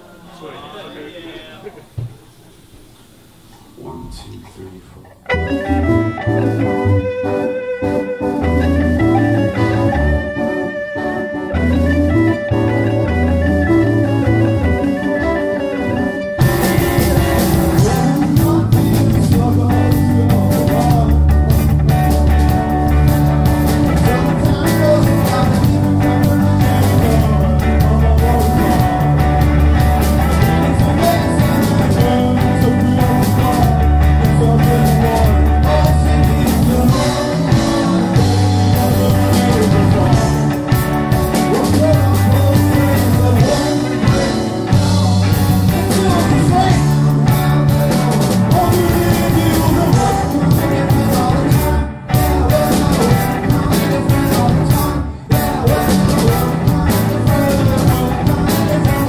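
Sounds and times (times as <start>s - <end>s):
keyboards: 0.0s - 59.0s
drum kit: 1.8s - 59.0s
low bass notes: 3.7s - 59.0s
electric guitar: 4.0s - 59.0s.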